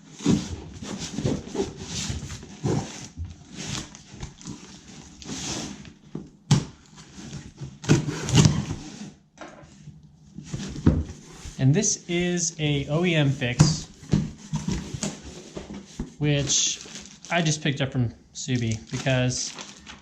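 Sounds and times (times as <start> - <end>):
handling rustling and scraping: 0.0 - 6.3, 6.9 - 12.4, 13.0 - 17.4, 18.5 - 20.0.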